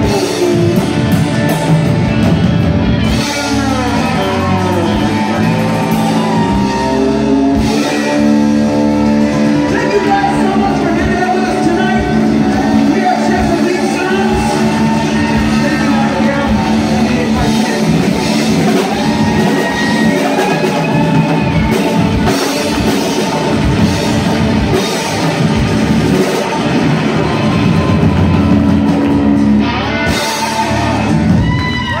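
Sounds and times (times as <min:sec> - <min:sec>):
drum kit: 0:00.0 - 0:32.0
electric guitars: 0:00.0 - 0:32.0.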